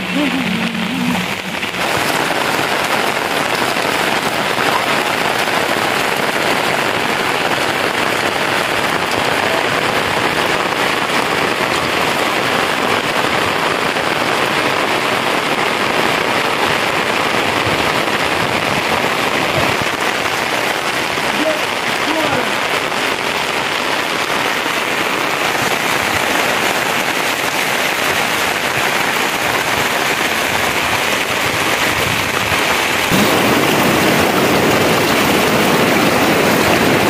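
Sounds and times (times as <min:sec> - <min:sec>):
rain on metal roofs: 0:00.0 - 0:37.0.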